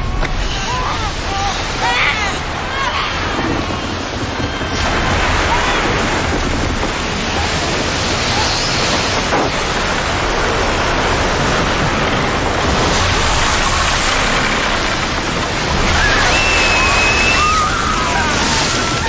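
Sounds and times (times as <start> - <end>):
strong wind: 0.0 - 19.0
waves breaking: 0.0 - 19.0.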